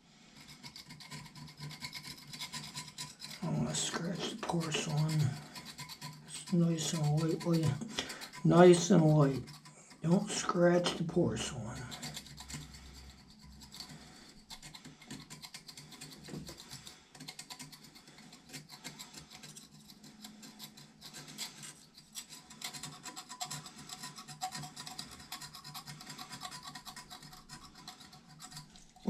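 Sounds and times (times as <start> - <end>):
knife scraping porcelain: 0.4 - 29.0.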